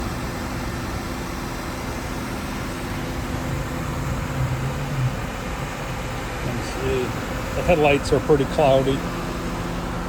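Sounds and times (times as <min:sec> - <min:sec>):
vehicle rumble and hiss: 0:00.0 - 0:10.0.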